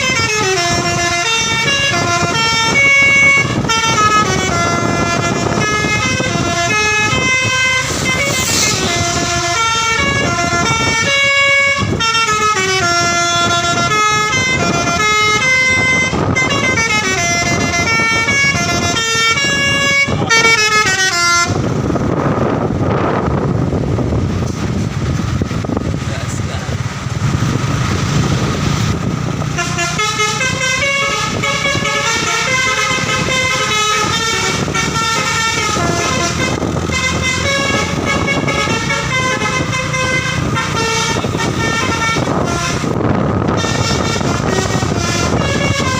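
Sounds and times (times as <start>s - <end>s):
bus horn playing a melody: 0.0s - 23.3s, 29.4s - 45.9s
noisy rumble: 0.0s - 45.9s.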